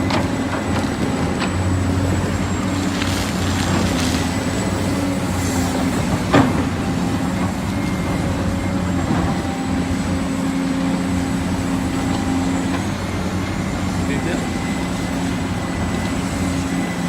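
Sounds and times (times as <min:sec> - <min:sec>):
diesel engine of heavy machinery: 0:00.0 - 0:17.0.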